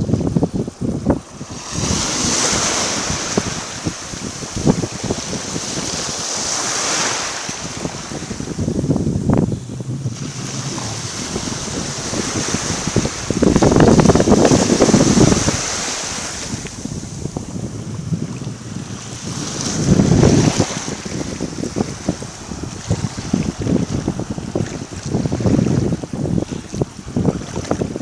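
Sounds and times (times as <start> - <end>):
sea waves breaking on a beach: 0.0 - 28.0
wind buffeting the microphone: 0.0 - 28.0.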